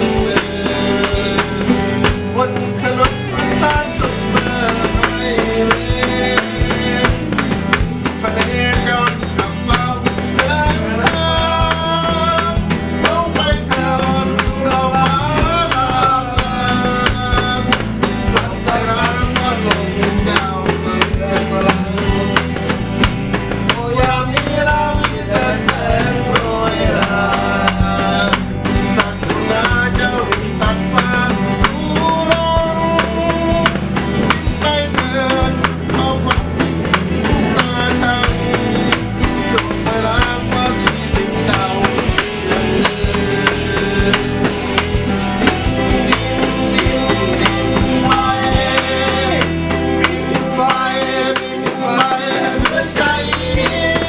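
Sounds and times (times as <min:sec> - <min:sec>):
song with drum beat and guitar: 0:00.0 - 0:54.0.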